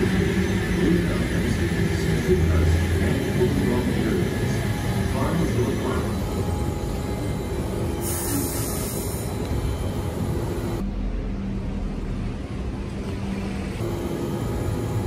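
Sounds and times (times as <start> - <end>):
train running on tracks: 0.0 - 15.0.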